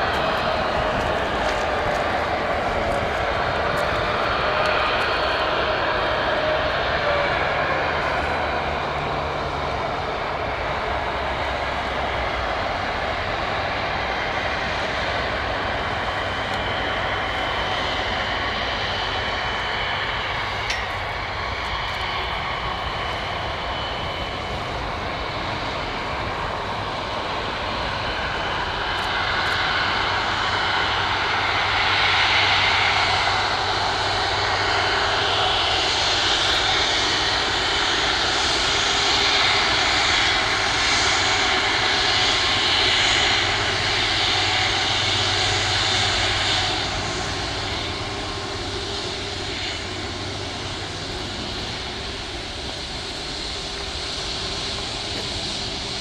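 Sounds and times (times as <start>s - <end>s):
jet engines rumbling with whine: 0.0s - 56.0s.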